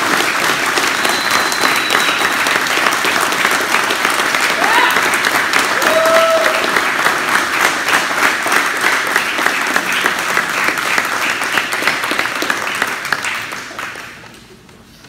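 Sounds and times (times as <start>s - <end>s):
people clapping: 0.0s - 14.9s.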